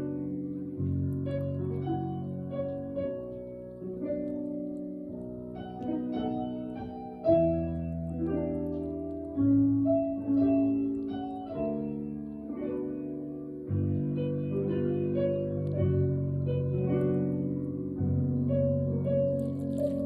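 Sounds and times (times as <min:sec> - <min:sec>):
piano low bass notes: 0:00.0 - 0:20.0
piano sustained chords: 0:00.0 - 0:20.0.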